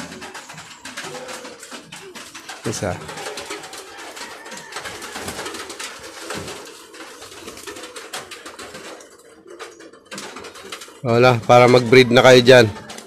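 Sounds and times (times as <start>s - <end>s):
doves cooing softly: 0.0s - 13.0s
straw and wire cage rustling: 0.0s - 13.0s.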